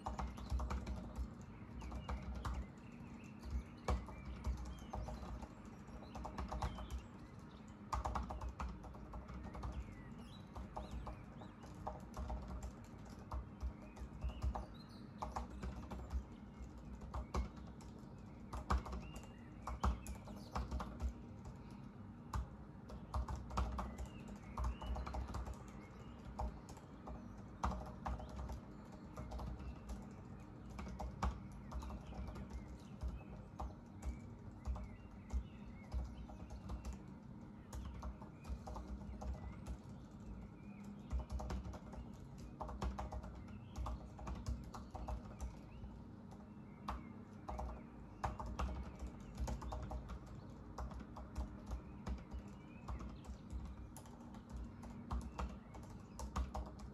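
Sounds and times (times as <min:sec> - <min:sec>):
faint bird chirps: 0:00.0 - 0:56.9
laptop keyboard typing: 0:00.0 - 0:56.9.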